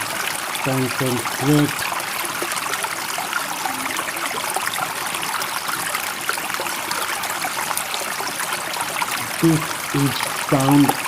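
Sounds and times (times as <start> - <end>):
running water trickling: 0.0 - 11.0.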